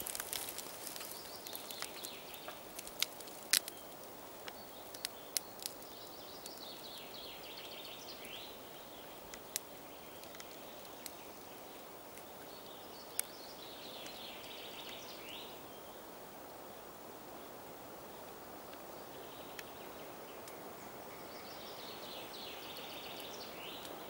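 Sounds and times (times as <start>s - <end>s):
songbird singing: 0.0s - 24.0s
steady outdoor hiss: 0.0s - 24.0s.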